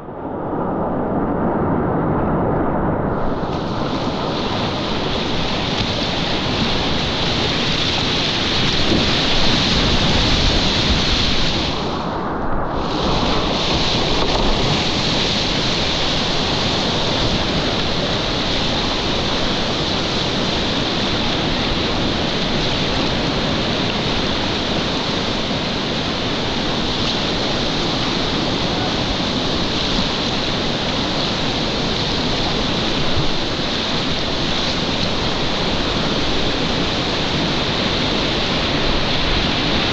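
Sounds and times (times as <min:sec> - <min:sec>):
whitewater rushing: 0:03.1 - 0:39.9.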